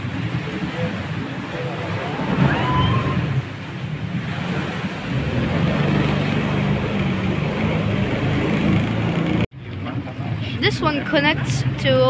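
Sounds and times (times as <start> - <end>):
boat engine humming: 0.0 - 12.0
sea noise: 0.0 - 12.0
wind: 0.0 - 12.0.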